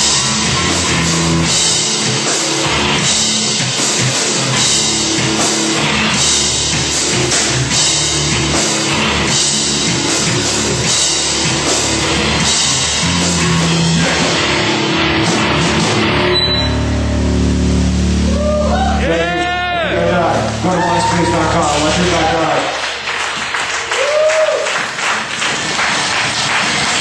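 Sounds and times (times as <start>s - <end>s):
band playing rock music: 0.0s - 22.9s.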